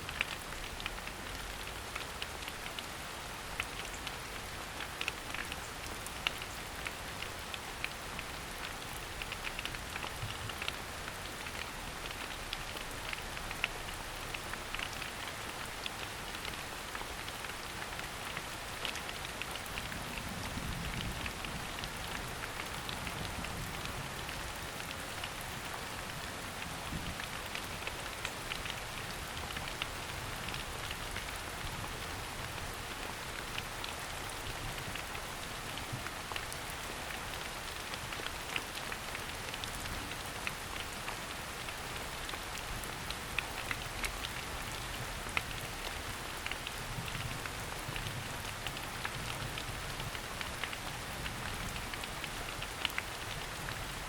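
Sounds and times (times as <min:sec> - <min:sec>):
rain falling in forest: 0:00.0 - 0:54.0
raindrop ticks: 0:00.0 - 0:54.0.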